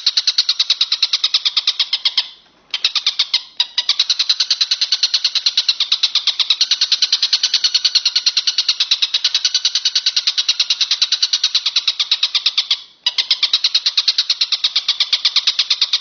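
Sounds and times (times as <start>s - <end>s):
insect trilling: 0.0s - 16.0s.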